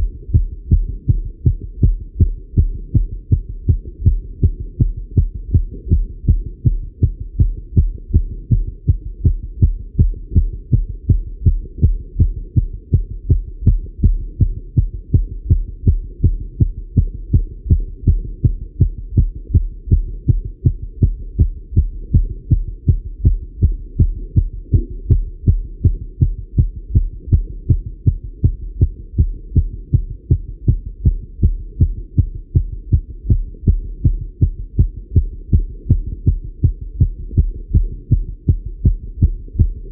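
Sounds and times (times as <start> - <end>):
fast heartbeat thuds: 0.0 - 39.9
low steady rumble: 0.0 - 39.9.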